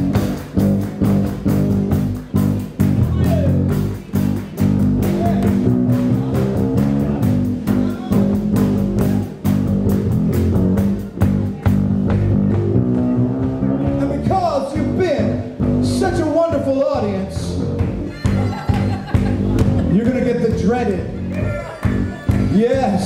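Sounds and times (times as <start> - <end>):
drum kit beat: 0.0 - 23.0
electric bass: 0.0 - 23.0.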